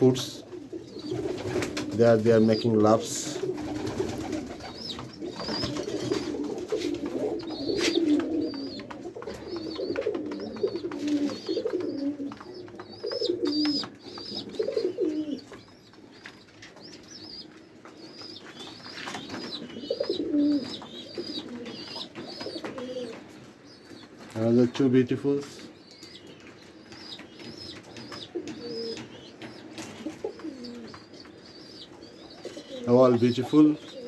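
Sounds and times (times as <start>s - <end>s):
pigeons cooing: 0.0s - 24.7s, 25.4s - 34.0s.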